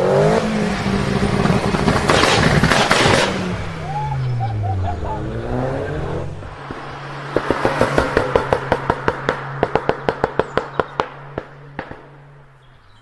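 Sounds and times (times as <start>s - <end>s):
exhaust popping: 0.0s - 12.9s
car engine idling: 0.0s - 13.0s.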